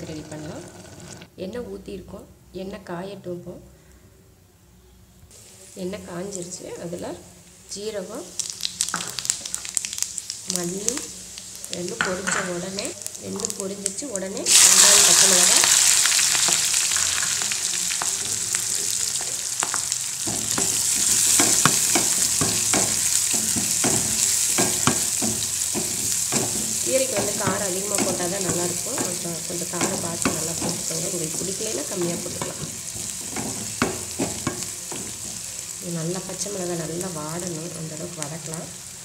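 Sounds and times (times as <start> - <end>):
food sizzling in hot oil: 5.3 - 39.0.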